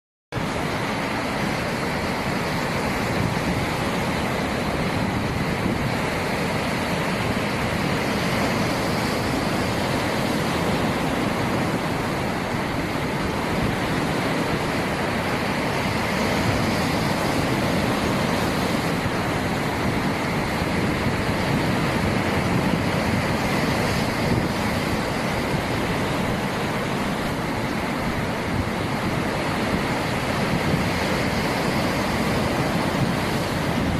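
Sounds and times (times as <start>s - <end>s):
ocean waves washing in: 0.4s - 33.9s.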